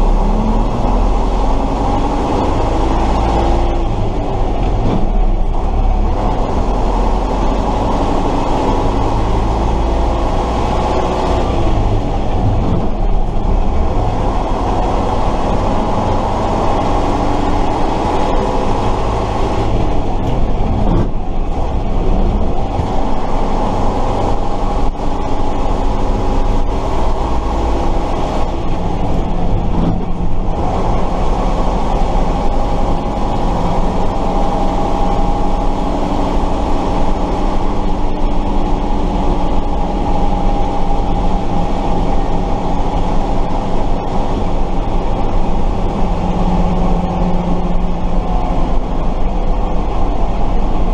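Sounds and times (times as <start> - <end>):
diesel truck engine while driving: 0.0 - 50.9.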